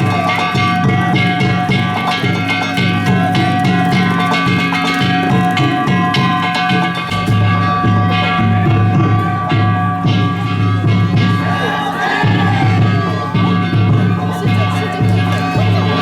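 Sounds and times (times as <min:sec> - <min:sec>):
metal gongs ringing: 0:00.0 - 0:16.0
taiko drum beating: 0:00.0 - 0:16.0.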